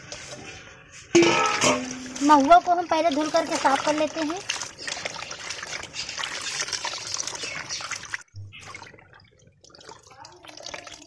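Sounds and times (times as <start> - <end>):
water drips: 1.2 - 11.0.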